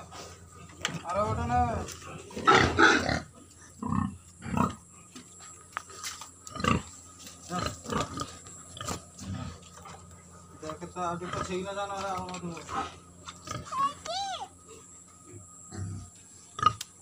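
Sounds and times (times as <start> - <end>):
pigs grunting and calling: 0.0 - 5.3, 6.4 - 14.0, 14.6 - 17.0.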